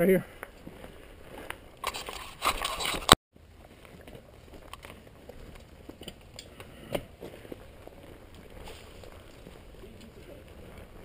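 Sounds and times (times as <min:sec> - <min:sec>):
gravel crunching and scraping: 0:00.0 - 0:11.0.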